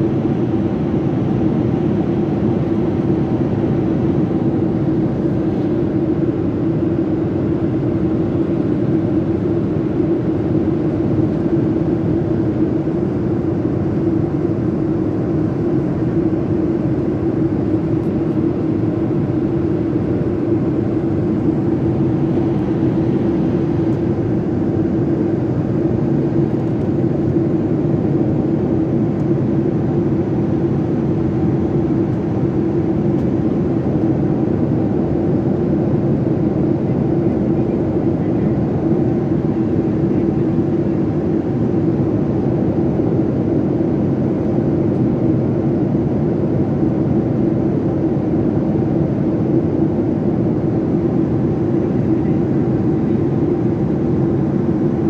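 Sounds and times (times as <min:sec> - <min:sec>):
airplane cabin drone: 0:00.0 - 0:55.0.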